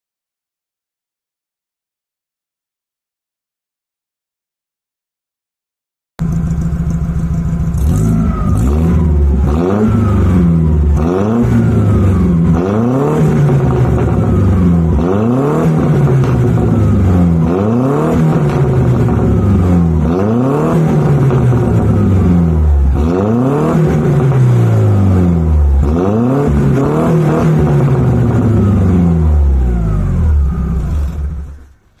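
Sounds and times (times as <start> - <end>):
car engine revving: 6.2 - 32.0.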